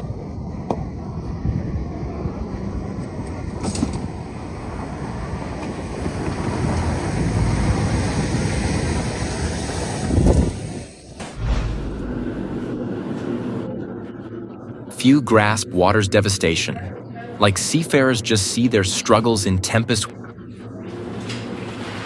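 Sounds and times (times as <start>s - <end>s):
continuous rushing rumbling noise: 0.0s - 22.0s.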